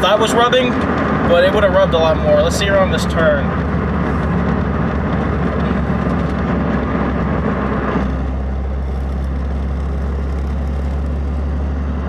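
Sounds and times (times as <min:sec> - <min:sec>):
car engine drone: 0:00.0 - 0:12.0
road and tyre noise: 0:00.0 - 0:12.0.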